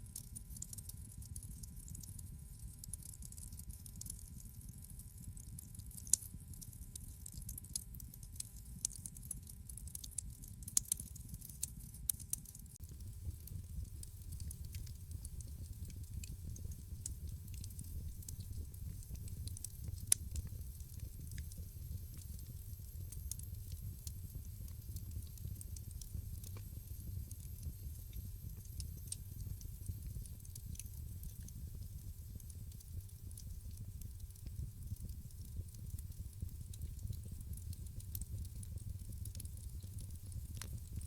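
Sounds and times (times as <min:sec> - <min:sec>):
wood fire crackling: 0:06.0 - 0:06.4, 0:07.6 - 0:41.0.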